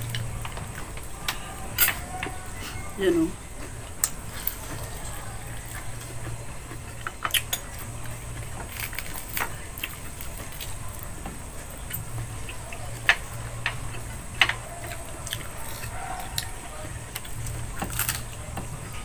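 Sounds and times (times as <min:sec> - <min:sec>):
low steady hum: 0:00.0 - 0:19.0
chewing and mouth sounds: 0:03.4 - 0:19.0.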